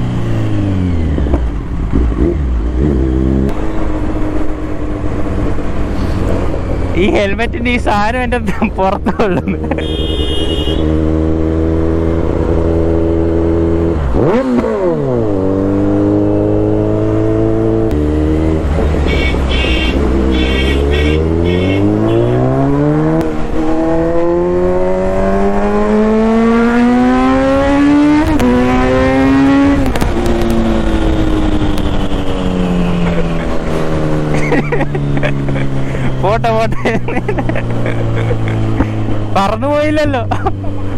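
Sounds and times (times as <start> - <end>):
motorcycle engine revving: 0.0 - 7.7, 9.5 - 40.9.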